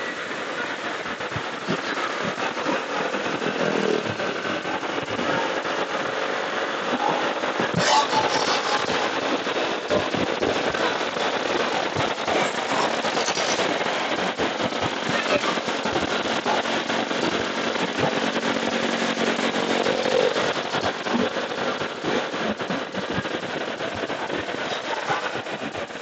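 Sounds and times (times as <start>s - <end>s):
motorcycle road and engine noise: 0.0s - 26.0s.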